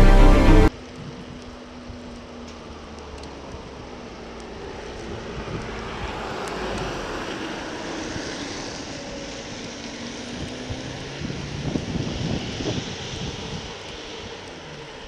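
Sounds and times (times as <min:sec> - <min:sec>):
car passing: 0:00.0 - 0:15.0
low rumble of bicycle riding: 0:00.0 - 0:15.0.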